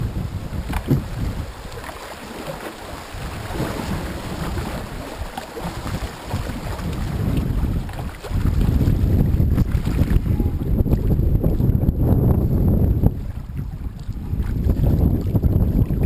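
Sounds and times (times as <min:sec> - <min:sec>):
water splashing along a canoe hull: 0:00.0 - 0:16.0
wind buffeting microphone: 0:00.0 - 0:16.0.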